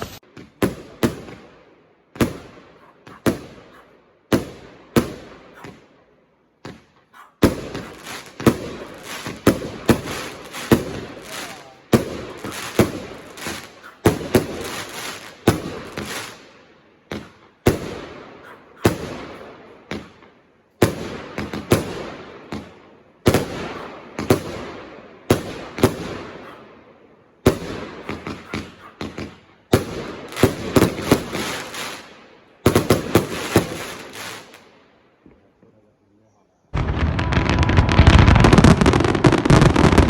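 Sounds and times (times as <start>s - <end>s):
fireworks bangs and crackle: 0.0s - 3.7s, 4.3s - 6.0s, 6.6s - 35.5s, 36.8s - 40.0s.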